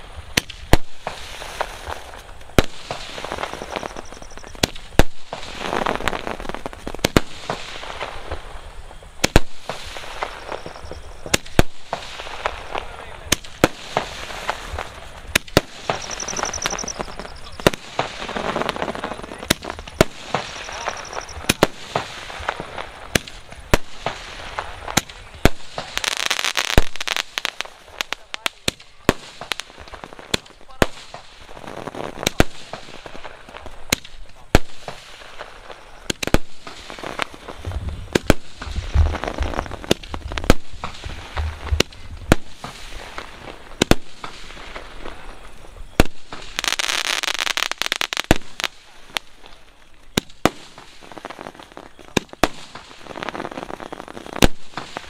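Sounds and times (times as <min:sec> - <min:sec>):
firework hissing rush: 0:00.0 - 0:55.0
fireworks bangs and crackles: 0:00.0 - 0:55.0.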